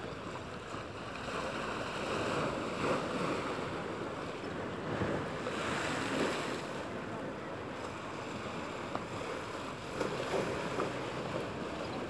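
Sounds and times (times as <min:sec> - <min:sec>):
small sea waves washing ashore: 0:00.0 - 0:12.0.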